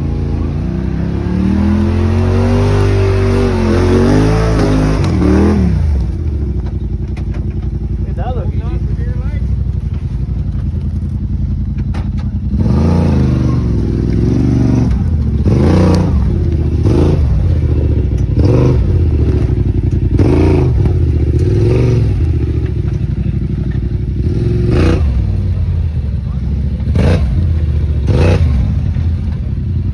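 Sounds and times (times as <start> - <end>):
vehicle engine revving: 0.0 - 29.9.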